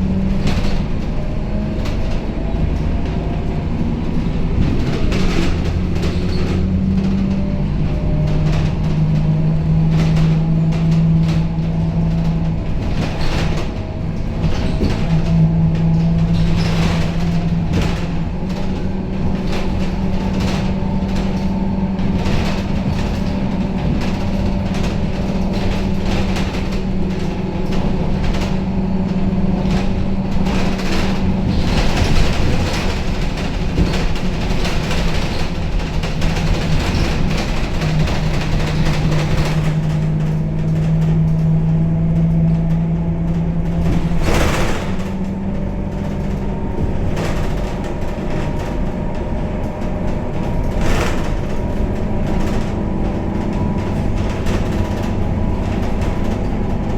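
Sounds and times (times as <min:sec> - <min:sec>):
bus engine droning: 0:00.0 - 0:56.9
rattles and knocks from bus body: 0:00.0 - 0:56.9.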